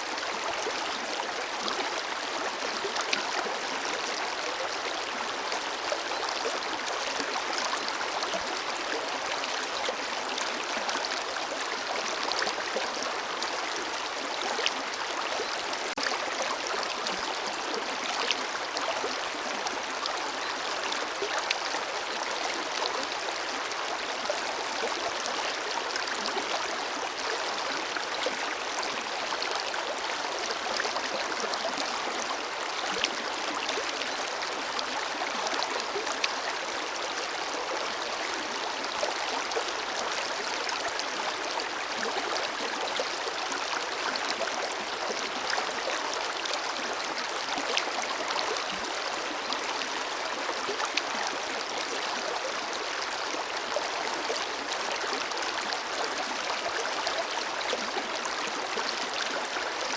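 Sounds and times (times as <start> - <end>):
stream flowing over stones: 0.0 - 59.9.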